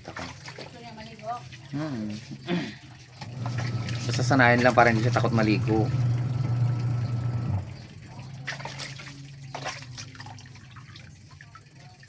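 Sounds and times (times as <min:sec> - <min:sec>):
running water: 0:00.0 - 0:12.0
water drips and splashes: 0:00.0 - 0:12.0.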